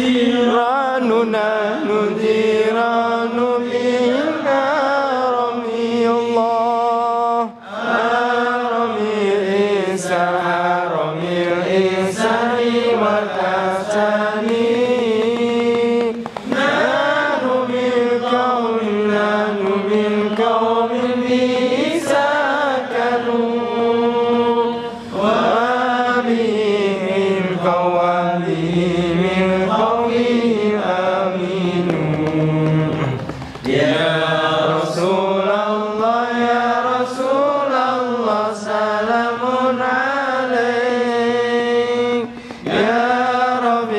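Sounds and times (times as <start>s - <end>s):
men chanting devotional verses: 0.0s - 43.9s.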